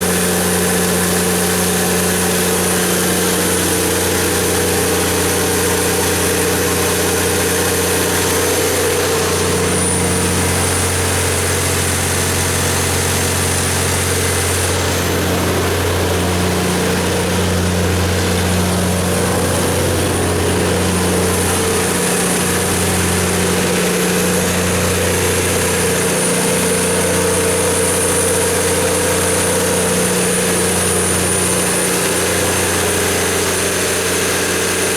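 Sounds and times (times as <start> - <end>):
diesel generator engine droning: 0.0 - 34.9.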